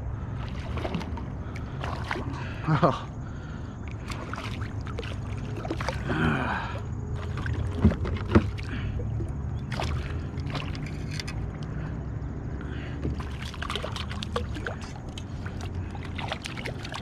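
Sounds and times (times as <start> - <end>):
water sloshing: 0.0 - 11.9, 12.7 - 17.0
steady low rumble: 0.0 - 17.0
fish thrashing and splashing: 0.3 - 2.6, 3.6 - 11.6, 13.1 - 17.0.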